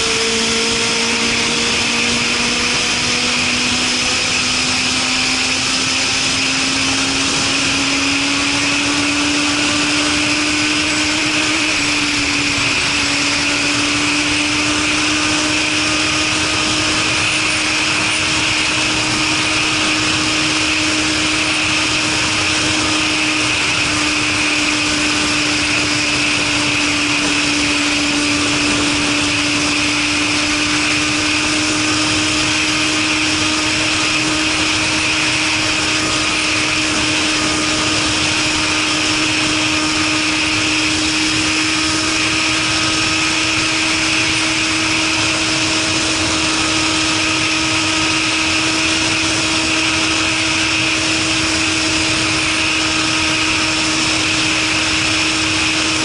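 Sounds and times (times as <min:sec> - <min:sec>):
constant rushing noise: 0:00.0 - 0:56.0
motorcycle engine running: 0:00.0 - 0:56.0.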